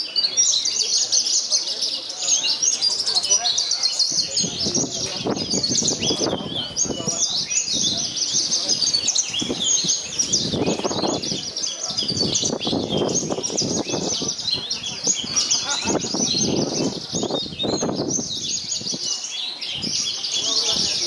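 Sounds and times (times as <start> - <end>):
larks singing: 0.0 - 21.0
murmur of voices: 0.0 - 21.0.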